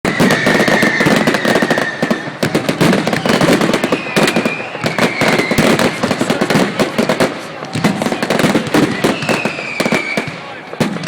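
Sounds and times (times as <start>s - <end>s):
firework whistle: 0.0s - 11.0s
fireworks crackling bangs: 0.0s - 11.0s.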